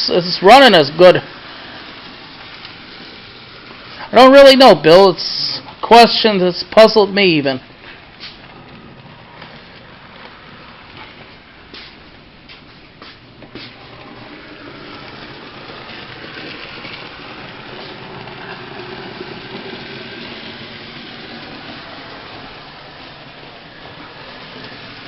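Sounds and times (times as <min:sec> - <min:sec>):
model train motor whirring: 0:00.0 - 0:05.5, 0:07.9 - 0:12.1, 0:13.4 - 0:25.0
metal wheels rolling on rails: 0:00.0 - 0:12.6, 0:13.4 - 0:25.0.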